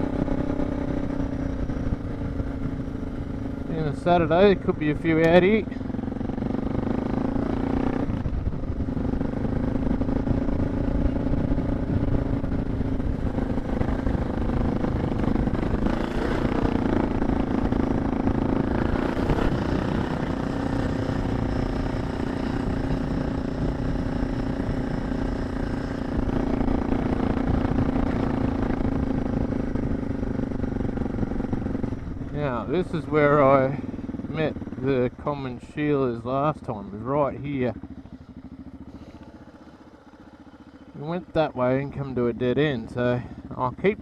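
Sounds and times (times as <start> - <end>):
motorcycle engine running: 0.0 - 44.0
wind and track noise: 0.0 - 44.0.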